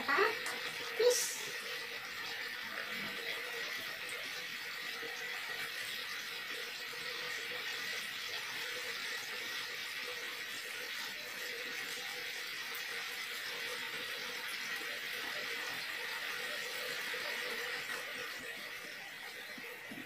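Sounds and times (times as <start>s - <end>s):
food simmering in a frying pan: 0.0s - 20.0s.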